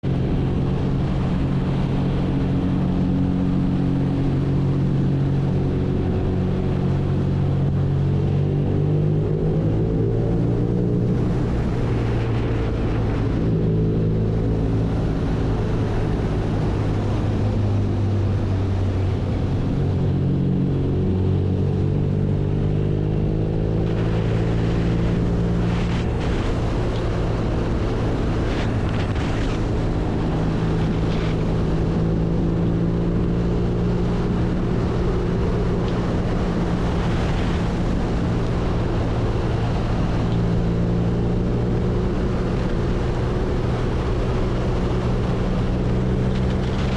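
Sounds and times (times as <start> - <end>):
wind noise: 0.0 - 46.9.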